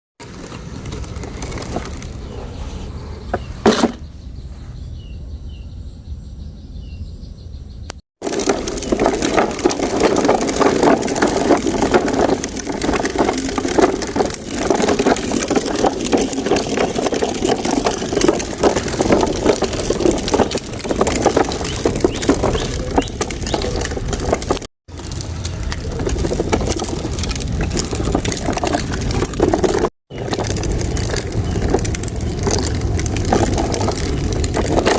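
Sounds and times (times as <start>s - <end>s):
toy truck rattling over sand: 0.2s - 2.8s, 8.2s - 34.9s.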